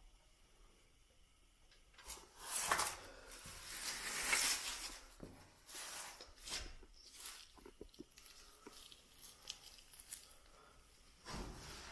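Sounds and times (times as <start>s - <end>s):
faint background hiss: 0.0s - 11.9s.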